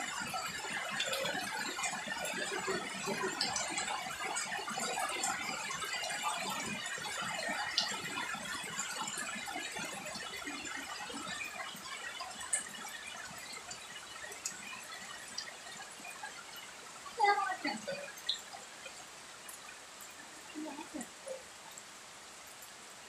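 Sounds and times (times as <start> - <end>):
sharp drip ticks: 0.0 - 22.9
rain falling on foliage: 0.0 - 23.0.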